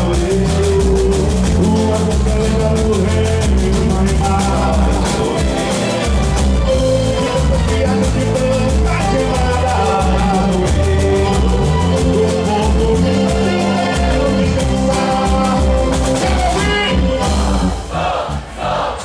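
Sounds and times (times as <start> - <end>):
heavy bass: 0.0 - 19.0
live band playing: 0.0 - 19.0
percussion beat: 0.0 - 19.0
person singing: 0.0 - 19.0.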